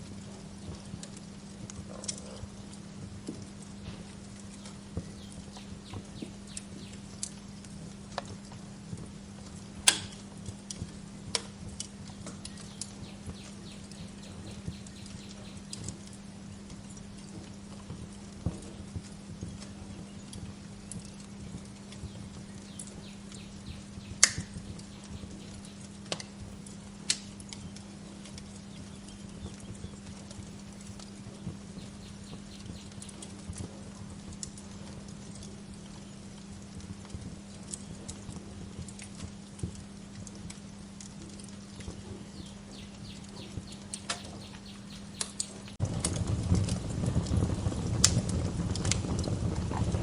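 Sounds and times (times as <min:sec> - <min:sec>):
sharp pops of fire: 0:00.0 - 0:50.0
steady low hum: 0:00.0 - 0:50.0
wood fire crackling: 0:00.0 - 0:50.0.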